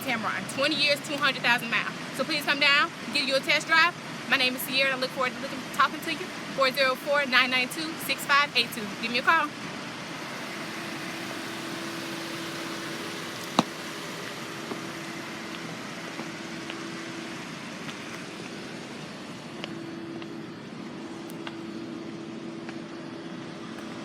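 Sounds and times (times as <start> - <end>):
airy background noise: 0.0 - 24.0
faint hum: 0.0 - 24.0.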